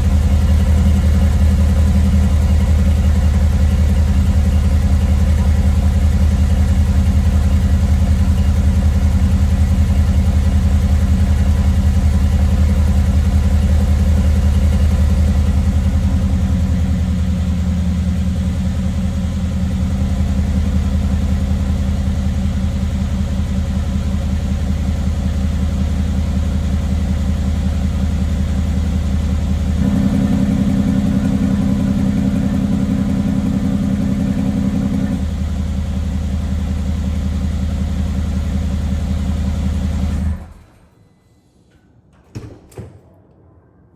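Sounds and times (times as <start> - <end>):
car engine idling: 0.0 - 40.6.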